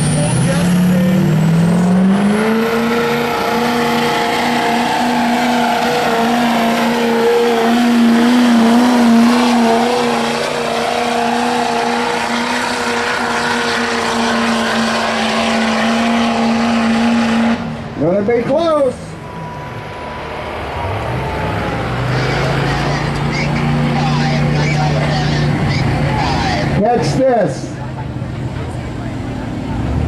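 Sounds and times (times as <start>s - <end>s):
truck engine at full throttle: 0.0s - 30.0s.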